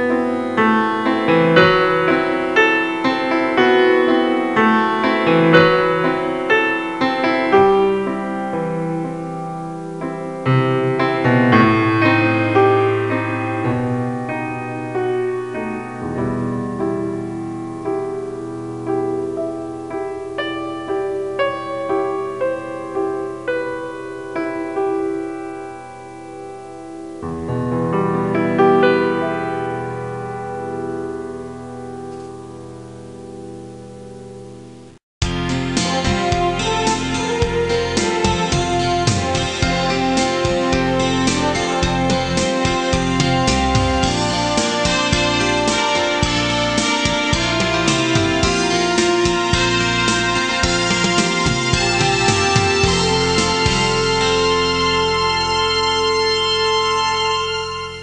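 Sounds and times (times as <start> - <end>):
background piano music: 0.0 - 58.0.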